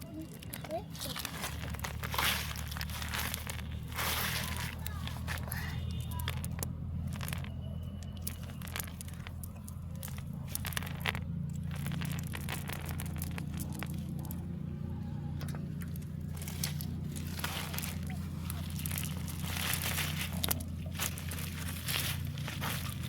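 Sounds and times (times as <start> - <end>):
crackling and scraping clicks: 0.0 - 23.0
low engine-like drone: 0.0 - 23.0.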